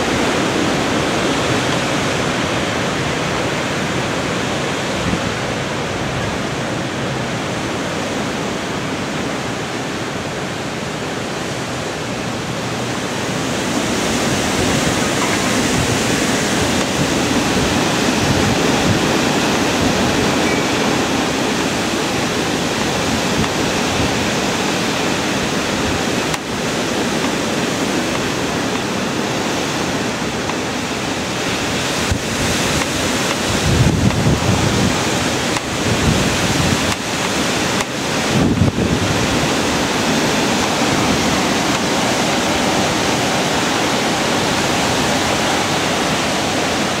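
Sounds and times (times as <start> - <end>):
wind buffeting microphone: 0.0 - 8.2, 11.6 - 47.0
wind rushing through trees: 0.0 - 47.0.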